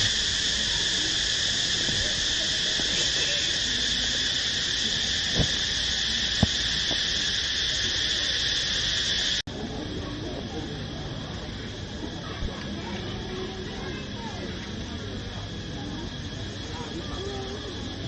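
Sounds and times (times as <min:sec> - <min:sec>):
insects shrilling: 0:00.0 - 0:09.4, 0:10.7 - 0:18.0.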